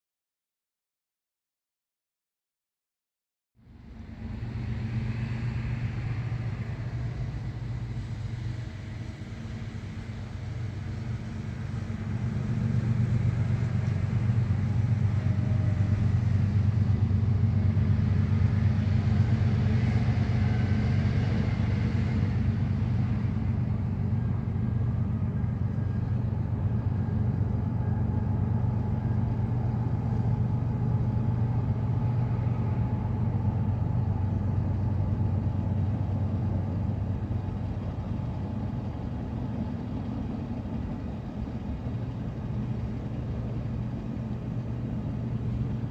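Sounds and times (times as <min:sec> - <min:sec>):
diesel locomotives rumbling: 0:03.6 - 0:45.9.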